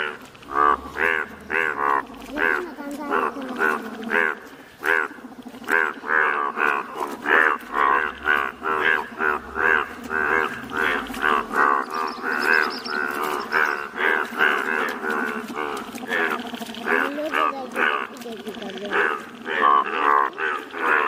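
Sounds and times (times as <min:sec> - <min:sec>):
bullfrogs calling: 0:00.0 - 0:21.0.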